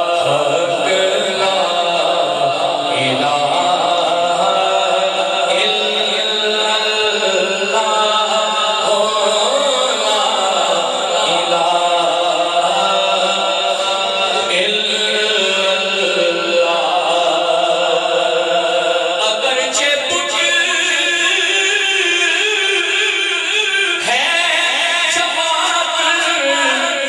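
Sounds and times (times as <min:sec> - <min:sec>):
voices chanting devotional song: 0:00.0 - 0:27.0.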